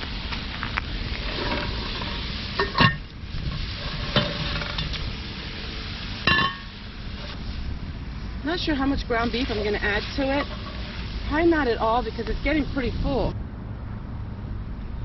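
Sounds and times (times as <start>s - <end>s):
meat sizzling in a pan: 0.0s - 13.3s.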